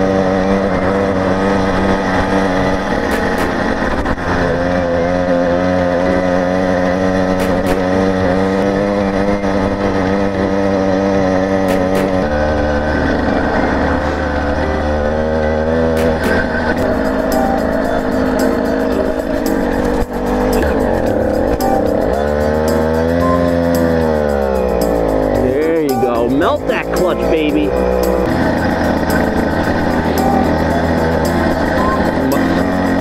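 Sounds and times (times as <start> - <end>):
two-stroke bicycle engine running: 0.0 - 33.0.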